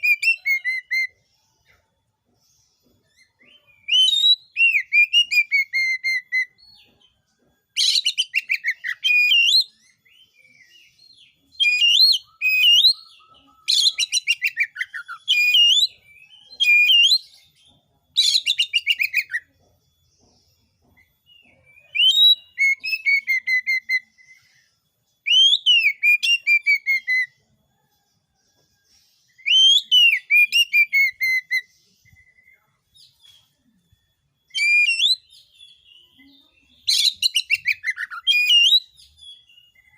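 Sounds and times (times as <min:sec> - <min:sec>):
bird singing whistles and trills: 0:00.0 - 0:01.8, 0:03.0 - 0:19.5, 0:21.0 - 0:27.8, 0:29.3 - 0:39.9.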